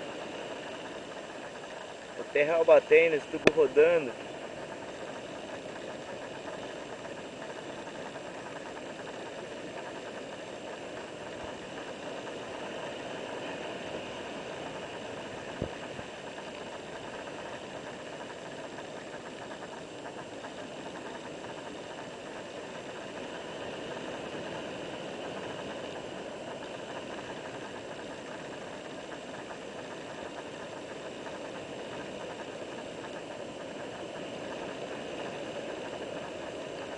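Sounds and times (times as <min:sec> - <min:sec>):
ocean surf breaking on rocks: 0:00.0 - 0:36.9.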